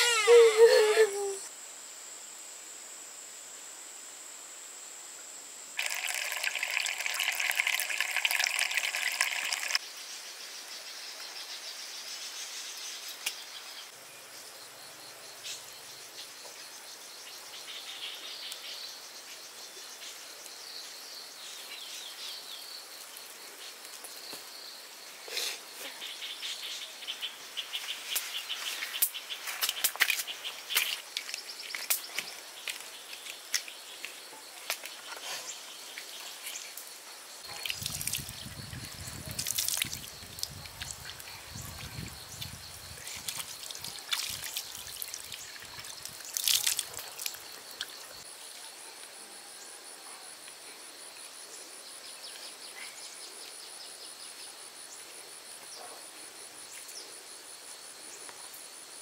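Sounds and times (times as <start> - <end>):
insect drone: 0.0 - 59.0.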